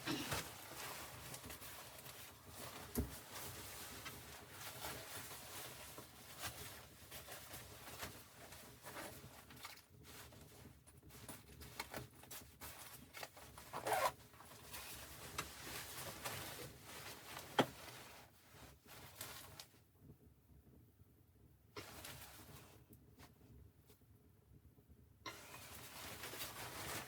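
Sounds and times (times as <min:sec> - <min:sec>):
rustling and handling noises: 0:00.0 - 0:19.9, 0:21.8 - 0:24.0, 0:25.3 - 0:27.0.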